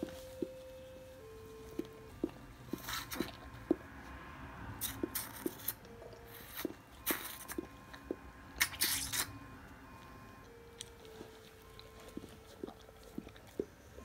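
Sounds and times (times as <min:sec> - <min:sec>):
dog licking puppy: 0:00.0 - 0:04.0, 0:04.8 - 0:09.3, 0:10.7 - 0:14.0.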